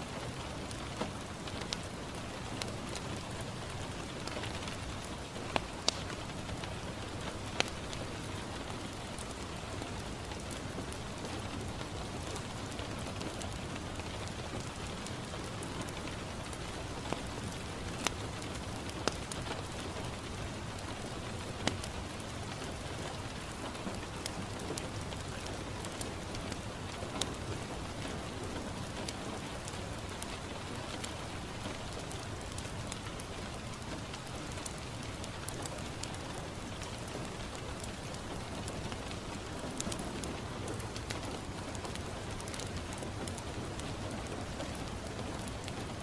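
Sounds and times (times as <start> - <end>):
rain pattering on a window: 0.0 - 46.0.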